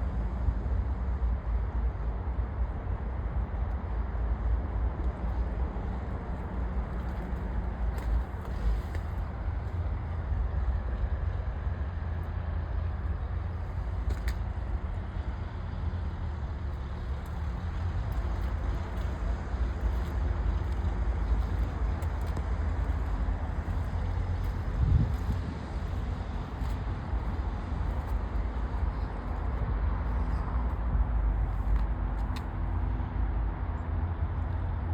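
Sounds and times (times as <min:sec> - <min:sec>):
car engine rumbling: 0:05.4 - 0:34.5.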